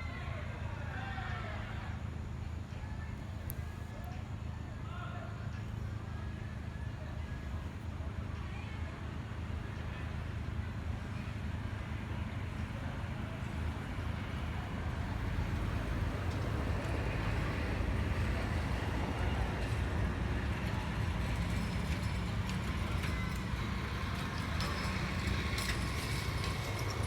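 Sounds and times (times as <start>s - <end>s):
low rumbling background noise: 0.0s - 27.0s.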